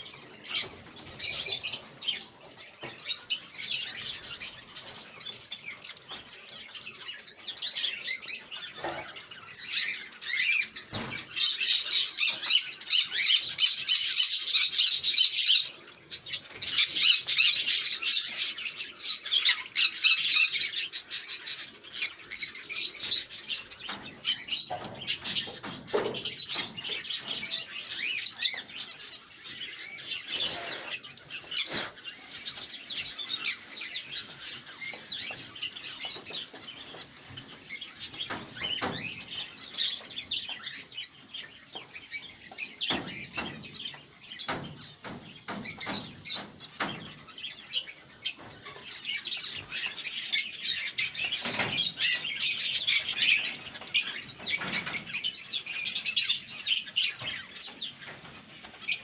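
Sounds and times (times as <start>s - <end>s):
caged birds chirping: 0.0s - 59.0s.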